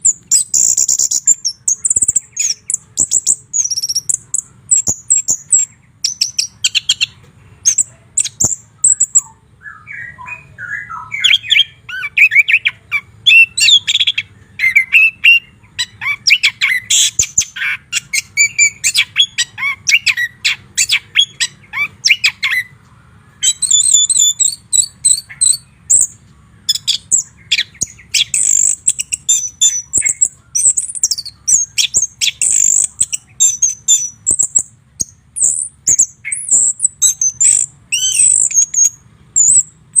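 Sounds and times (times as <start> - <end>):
bird singing whistles and chatter: 0.0 - 40.0.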